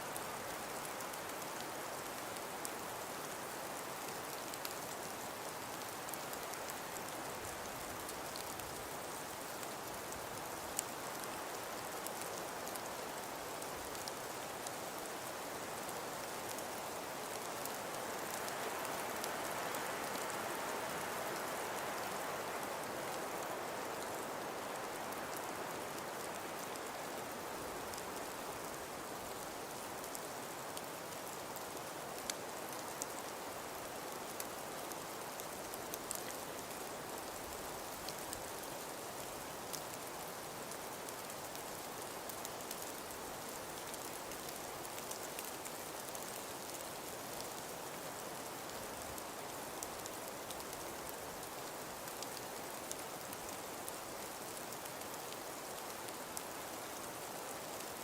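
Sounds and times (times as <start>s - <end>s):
faint scattered ticks: 0.0s - 58.0s.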